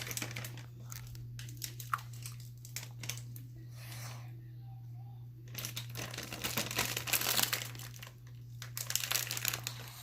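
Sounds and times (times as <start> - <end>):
plastic crinkling: 0.0 - 3.5, 5.4 - 10.0.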